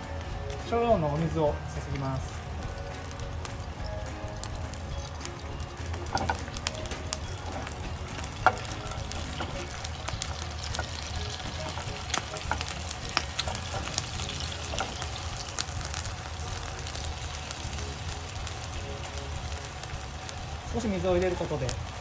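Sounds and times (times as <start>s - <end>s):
egg sizzling in frying pan: 0.0s - 22.0s.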